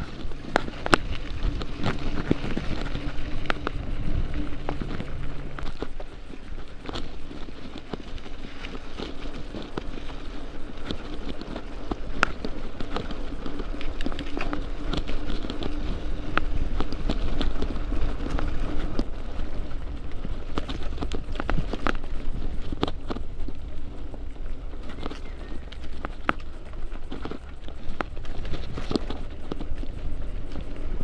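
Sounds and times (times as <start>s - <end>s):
bicycle rattling and knocking: 0.0s - 31.0s
steady hum: 0.0s - 31.0s
tyres rumbling and moving air: 0.0s - 31.0s.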